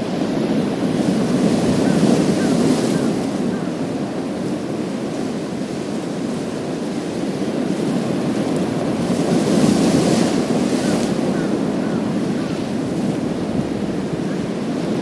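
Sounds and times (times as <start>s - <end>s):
waves washing over pebbles: 0.2s - 15.0s.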